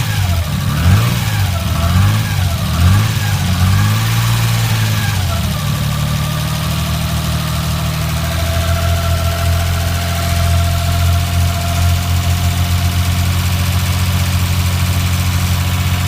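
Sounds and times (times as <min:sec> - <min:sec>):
car engine revving and idling: 0:00.0 - 0:16.0
noisy engine lifter ticking: 0:00.0 - 0:16.0.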